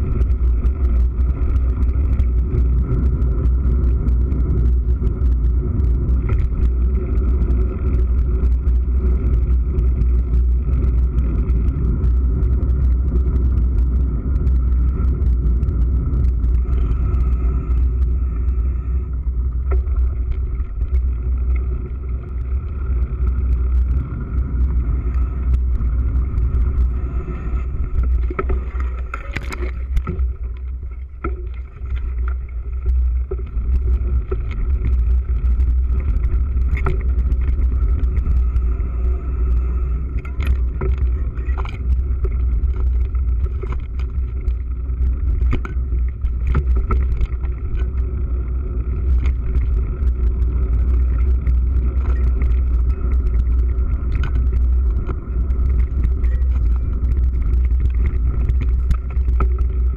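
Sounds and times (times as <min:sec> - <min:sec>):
bike clicking and rattling: 0:00.0 - 0:18.2, 0:19.2 - 0:38.8, 0:39.4 - 0:59.9
wind rumble on camera: 0:00.0 - 0:59.9.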